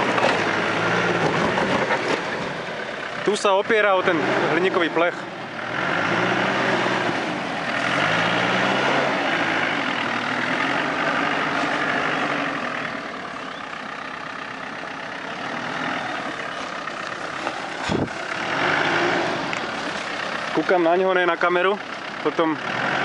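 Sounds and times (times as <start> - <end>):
off-road vehicle engine at low revs: 0.0 - 23.0.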